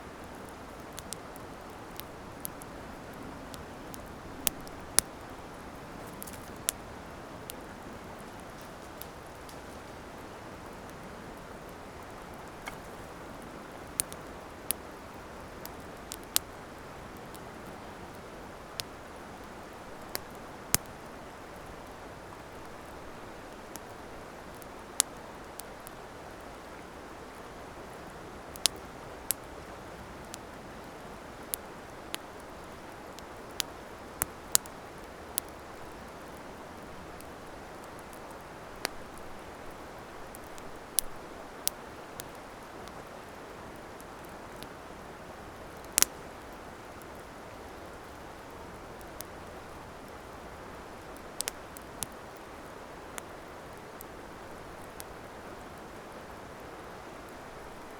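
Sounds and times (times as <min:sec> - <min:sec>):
campfire crackling and popping: 0:00.1 - 0:27.4, 0:28.4 - 0:29.6, 0:30.2 - 0:55.9.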